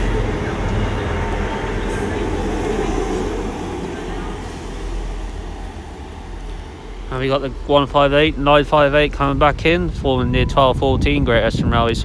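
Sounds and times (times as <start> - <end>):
train rail rumble: 0.0 - 12.0.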